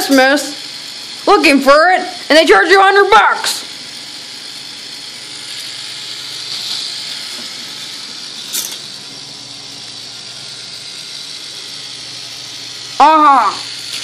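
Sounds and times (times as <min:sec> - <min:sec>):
toy gearbox whirring and rattling: 0:00.0 - 0:14.0.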